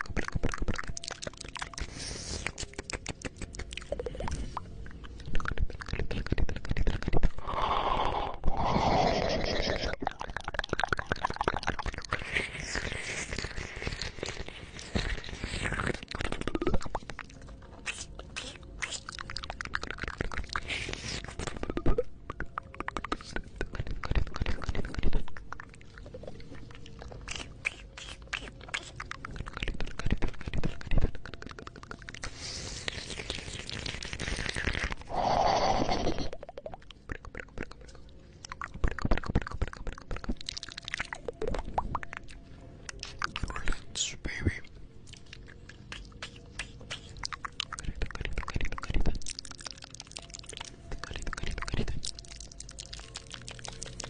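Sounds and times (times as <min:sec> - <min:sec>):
wet mouth clicks and smacks: 0:00.0 - 0:08.0, 0:10.0 - 0:35.1, 0:35.8 - 0:54.0.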